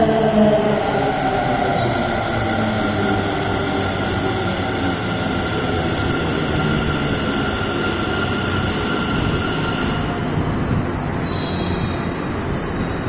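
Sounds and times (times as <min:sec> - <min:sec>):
train rumble: 0:00.0 - 0:13.0
high train squeal: 0:00.6 - 0:13.0.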